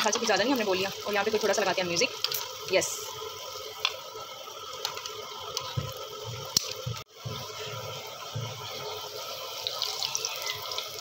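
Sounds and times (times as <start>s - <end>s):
deep-frying sizzle with pops: 0.0s - 11.0s.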